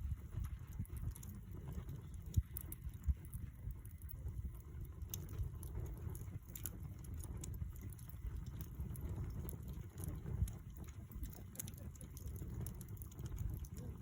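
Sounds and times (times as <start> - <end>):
campfire crackling and popping: 0.0 - 14.0
low steady fire rumble: 0.0 - 14.0.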